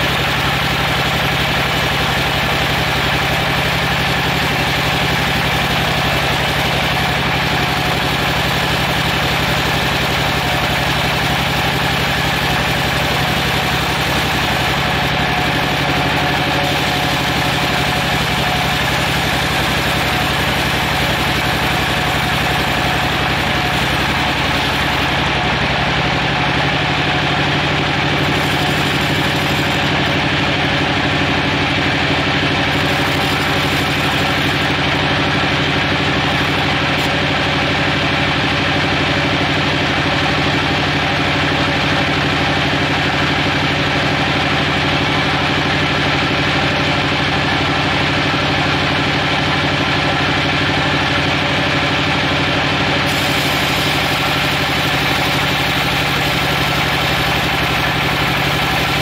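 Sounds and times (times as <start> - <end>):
band saw machine hum: 0.0 - 41.4, 44.5 - 59.0.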